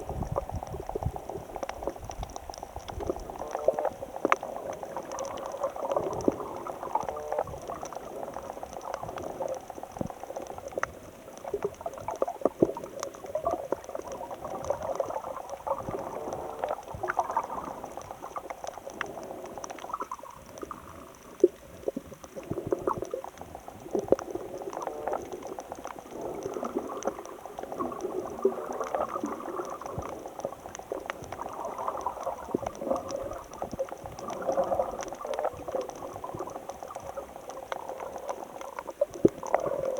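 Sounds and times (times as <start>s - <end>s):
water bubbling and gurgling: 0.0s - 39.9s
short clicks and crackles: 0.2s - 39.9s.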